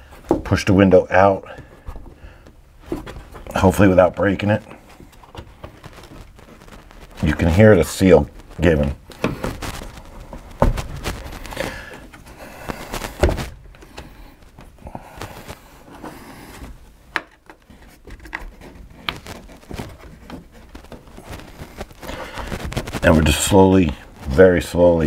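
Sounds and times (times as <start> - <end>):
rubber scraping against glass: 2.8 - 24.5.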